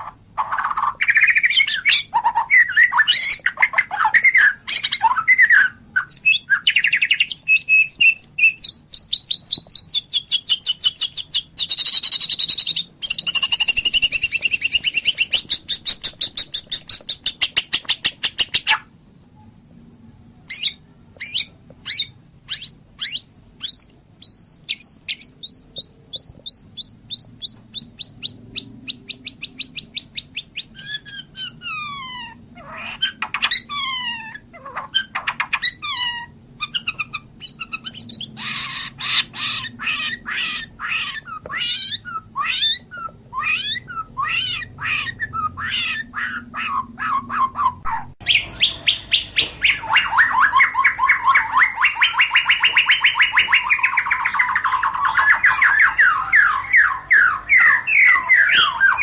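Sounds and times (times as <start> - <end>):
bird singing whistled phrases: 0.6 - 19.0, 20.5 - 34.4, 35.0 - 59.0.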